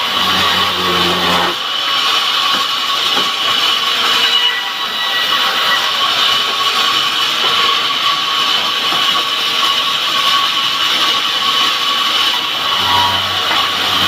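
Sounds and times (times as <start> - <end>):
power saw whining: 0.0 - 14.0.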